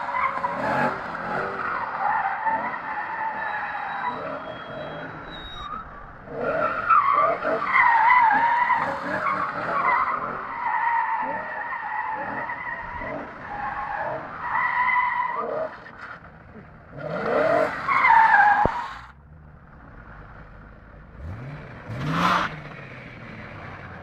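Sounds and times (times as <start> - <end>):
car engine revving: 0.0 - 10.6, 15.2 - 24.0.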